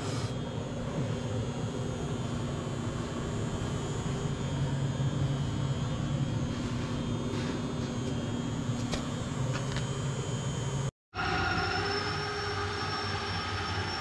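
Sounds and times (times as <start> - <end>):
mechanical drone with low hum: 0.0 - 14.0.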